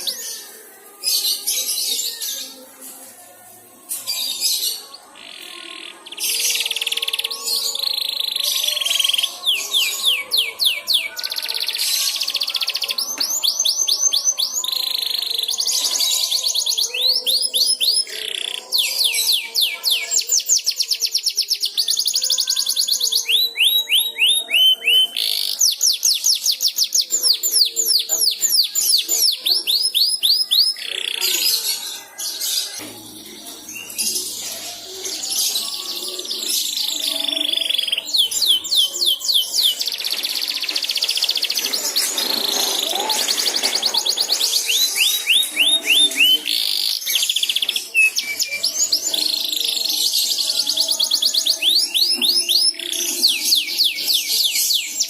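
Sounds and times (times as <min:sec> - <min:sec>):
canary singing trilled song: 0:03.9 - 0:55.0.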